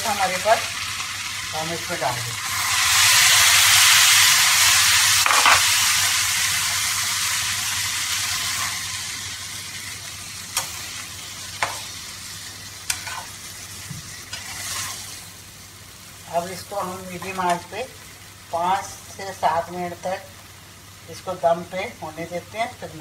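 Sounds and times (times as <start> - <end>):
water hissing in a hot pan: 0.0 - 22.0.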